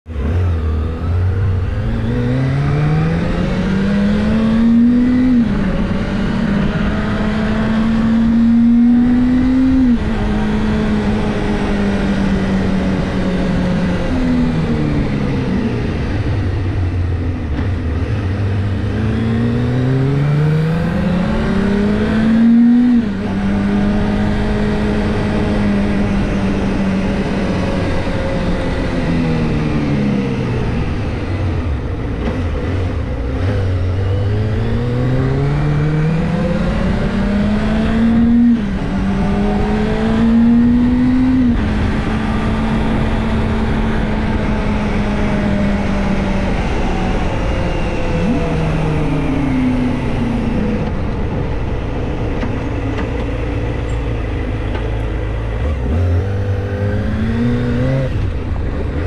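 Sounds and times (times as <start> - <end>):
motorcycle engine accelerating: 0.1 - 59.0.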